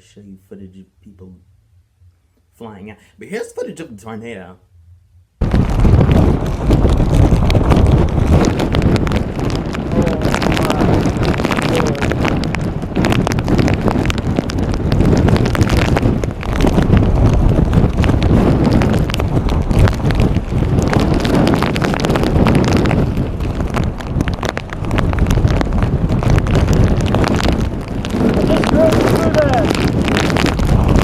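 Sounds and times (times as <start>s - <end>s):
strong wind buffeting microphone: 4.9s - 31.0s.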